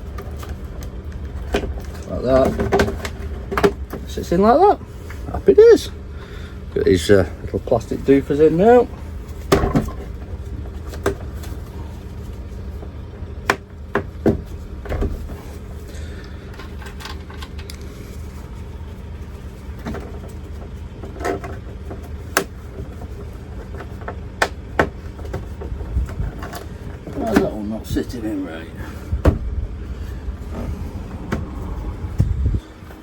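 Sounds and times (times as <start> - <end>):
low hum: 0.0 - 33.0.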